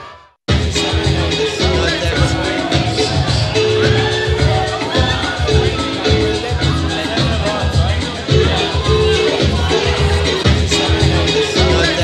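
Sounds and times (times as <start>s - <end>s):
loud dance music with bass beat: 0.5s - 12.0s.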